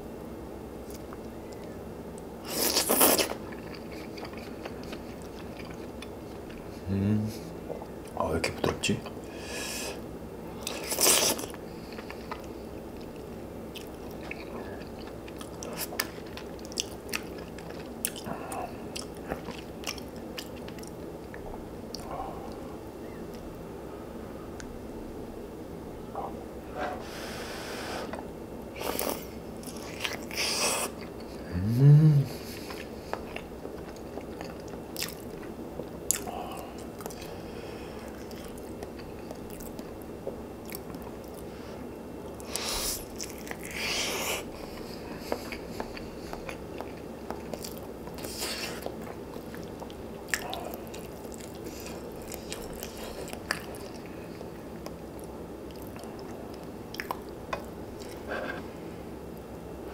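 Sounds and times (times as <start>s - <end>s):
chewing with crunchy bites: 0.8s - 6.8s, 10.5s - 23.5s, 28.1s - 31.5s, 32.3s - 59.6s.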